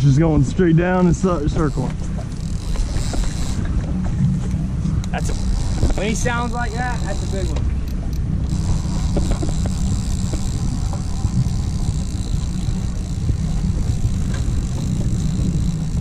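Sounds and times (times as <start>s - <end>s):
outboard motor rumbling: 0.0s - 16.0s
wind buffeting microphone: 0.0s - 16.0s.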